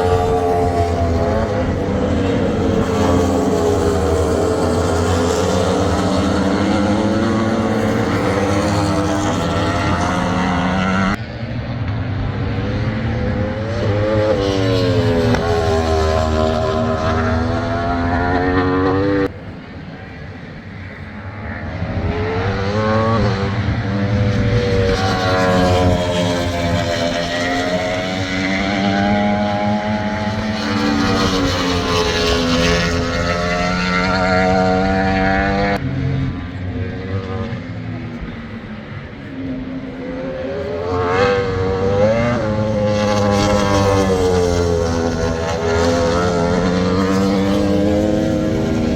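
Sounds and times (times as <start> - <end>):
racing motorcycle engines at high revs: 0.0 - 19.4, 20.8 - 48.9.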